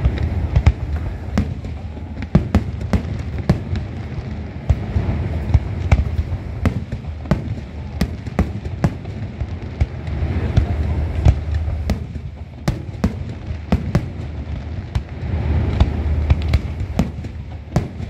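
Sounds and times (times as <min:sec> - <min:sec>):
fireworks bangs: 0:00.0 - 0:18.0
low rumble: 0:00.0 - 0:18.0.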